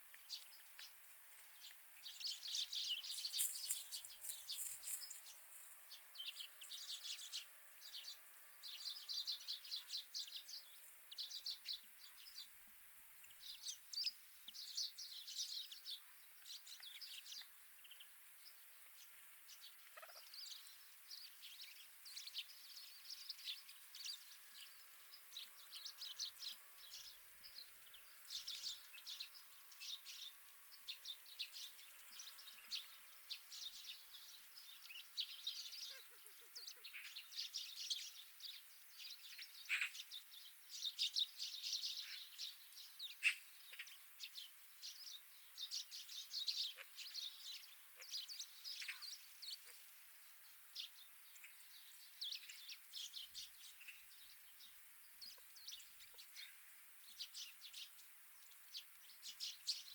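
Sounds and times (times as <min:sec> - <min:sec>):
birds chirping and chattering: 0:00.0 - 0:59.9.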